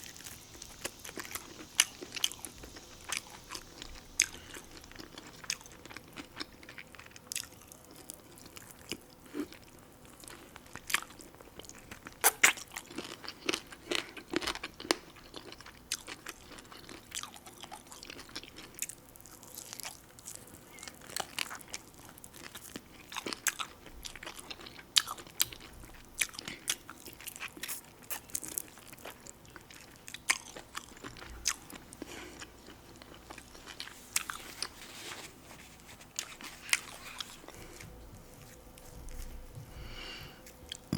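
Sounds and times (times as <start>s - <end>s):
person crunching and chewing: 0.0s - 39.3s.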